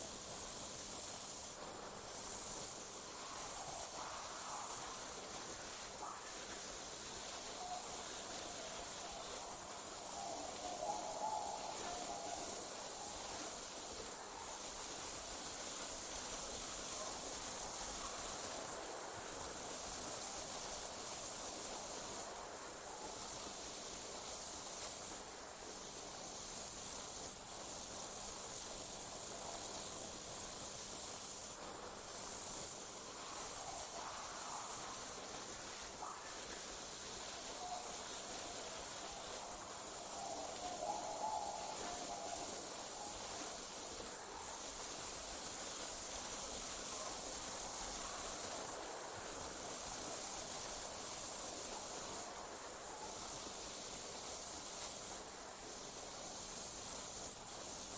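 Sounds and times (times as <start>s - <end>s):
crickets trilling: 0.0s - 57.9s
faint background hiss: 0.0s - 57.9s.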